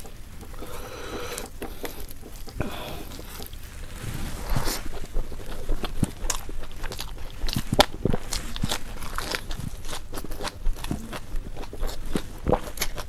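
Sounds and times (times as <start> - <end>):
low steady rumble: 0.0 - 13.0
person chewing: 0.0 - 13.0.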